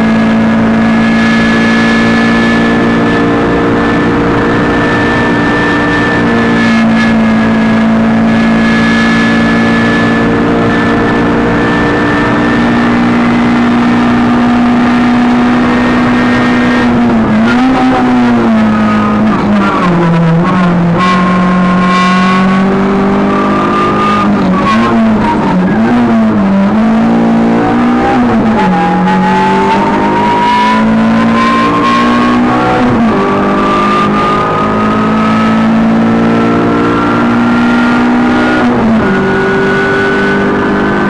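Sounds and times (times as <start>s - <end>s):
high whine: 0.0s - 41.0s
rally car engine running hard: 0.0s - 41.0s.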